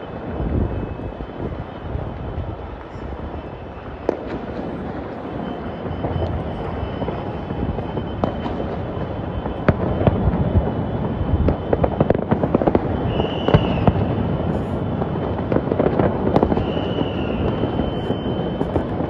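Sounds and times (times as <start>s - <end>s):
fireworks bursting: 0.0s - 19.0s
fireworks cracking and popping: 0.0s - 19.0s
fireworks crackling: 0.0s - 19.0s.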